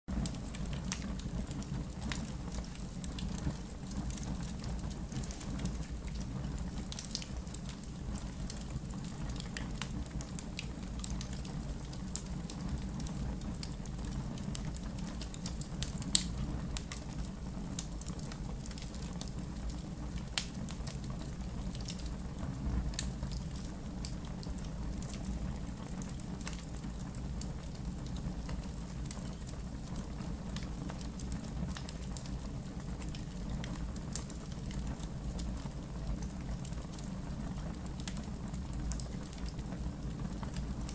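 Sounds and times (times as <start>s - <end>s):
low rumble of flames: 0.1s - 40.9s
wood fire crackling: 0.1s - 40.9s.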